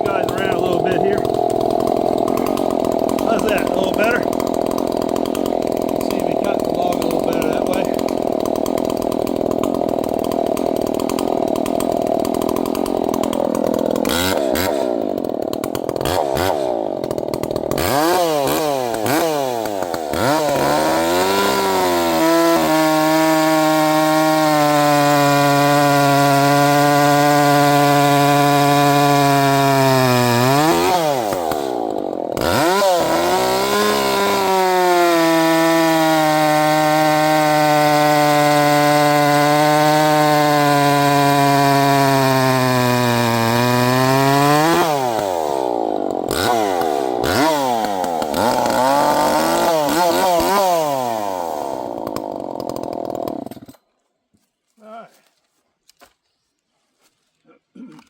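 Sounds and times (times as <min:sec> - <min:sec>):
chainsaw cutting logs: 0:00.0 - 0:54.5.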